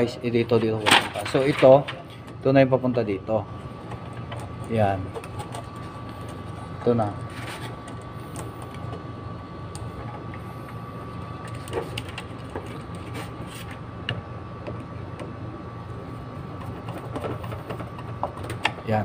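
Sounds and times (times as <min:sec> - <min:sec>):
steady hum with high tone: 0:00.0 - 0:19.0.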